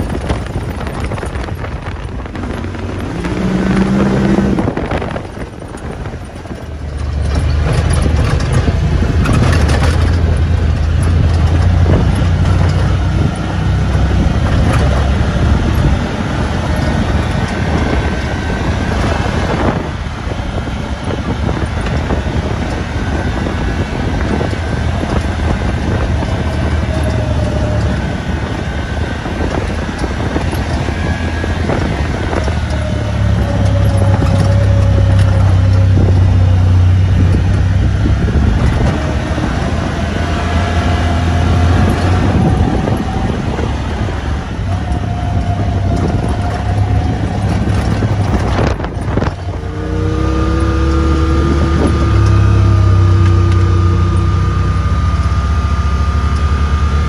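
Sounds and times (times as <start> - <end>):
road noise: 0.0 - 57.0
vehicle engine droning: 0.0 - 57.0.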